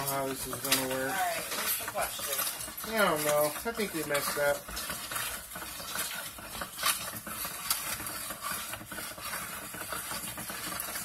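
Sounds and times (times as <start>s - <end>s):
ice scraping and rattling in toy: 0.0s - 11.0s.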